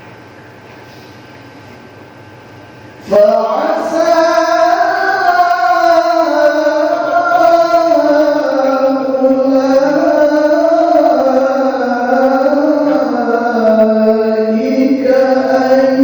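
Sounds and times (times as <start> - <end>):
man reciting melodically: 3.0 - 16.0.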